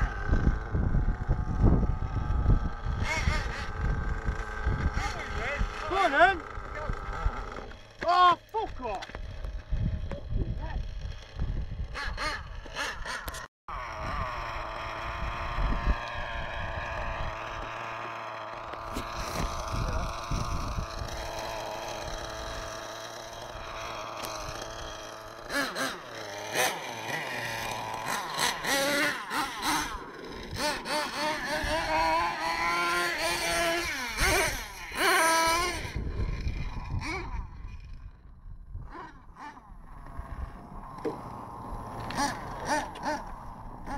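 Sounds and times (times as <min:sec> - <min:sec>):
small nitro engines revving: 0:00.0 - 0:43.9.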